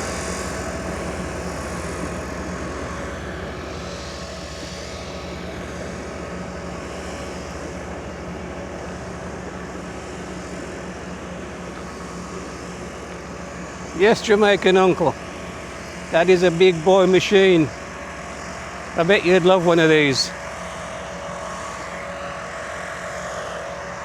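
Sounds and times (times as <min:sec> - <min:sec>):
grass-cutting machine engine drone: 0:00.0 - 0:24.0.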